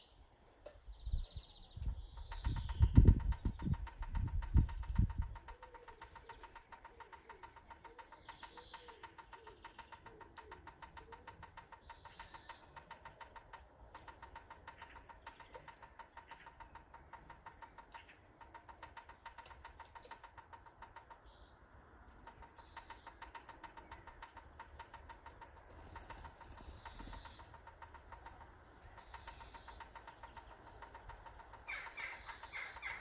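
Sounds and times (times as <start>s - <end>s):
small bird call notes: 0.0s - 20.2s, 21.0s - 33.0s.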